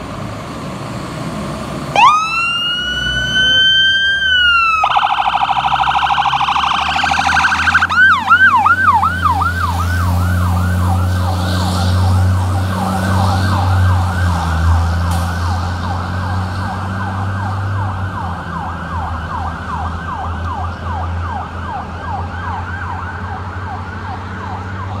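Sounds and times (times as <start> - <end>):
fire truck siren: 1.9 - 25.0.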